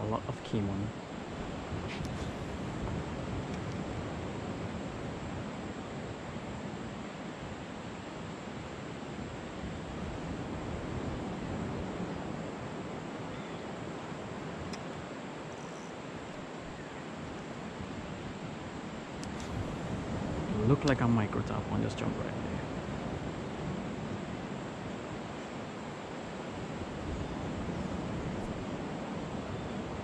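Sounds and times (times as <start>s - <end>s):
ocean surf: 0.0s - 30.0s
wind: 0.0s - 30.0s.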